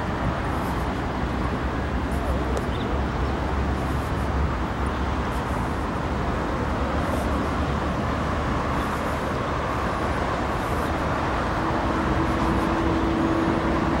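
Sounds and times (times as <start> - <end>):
road traffic on bridge: 0.0 - 14.0.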